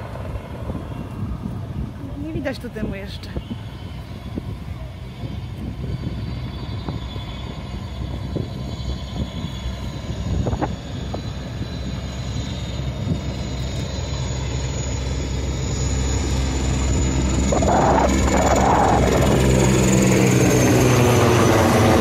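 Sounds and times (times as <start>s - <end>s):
helicopter rotor and engine hum: 0.0s - 22.0s.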